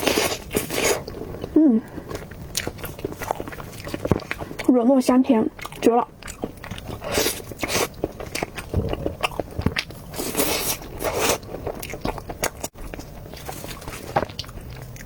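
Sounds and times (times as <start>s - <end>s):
close-miked chewing and bites: 0.0s - 4.7s, 5.5s - 15.0s.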